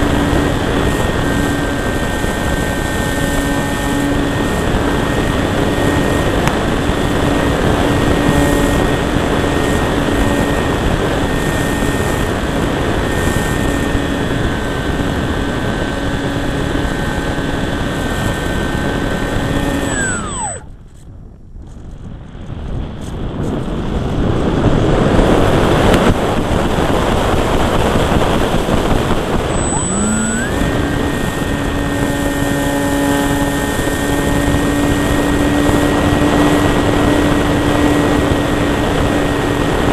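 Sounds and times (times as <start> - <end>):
electric motor whine: 0.0 - 21.0, 25.0 - 39.9.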